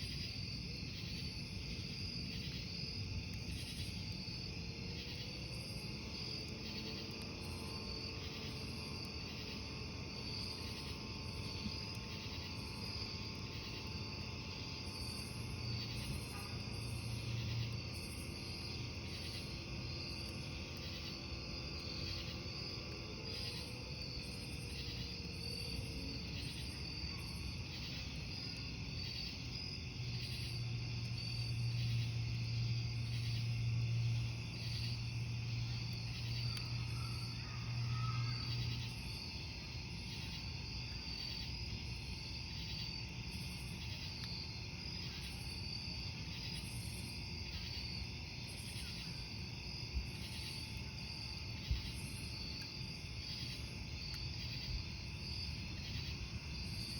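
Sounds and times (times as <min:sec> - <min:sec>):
campfire crackling: 0:00.0 - 0:37.4, 0:38.5 - 0:56.9
crickets chirping: 0:00.0 - 0:56.9.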